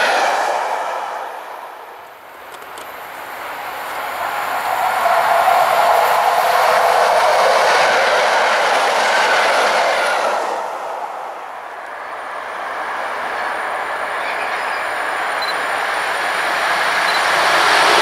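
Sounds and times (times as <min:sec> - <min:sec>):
electric train passing at speed: 0:00.0 - 0:18.0.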